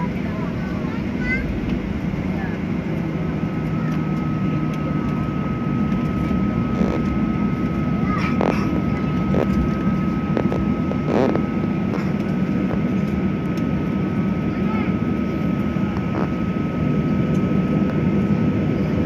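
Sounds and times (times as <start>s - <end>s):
high-pitched engine whine: 0.0s - 19.0s
jet engines droning in cabin: 0.0s - 19.0s.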